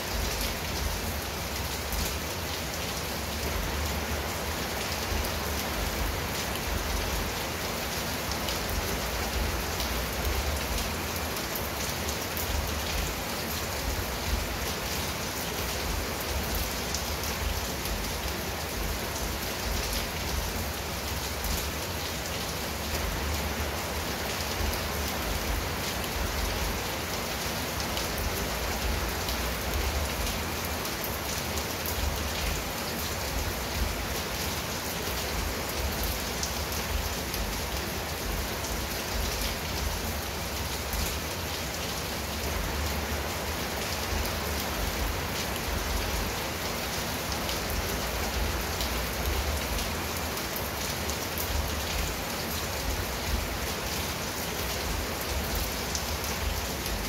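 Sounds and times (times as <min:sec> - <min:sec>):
rain on a tile roof: 0:00.0 - 0:57.0.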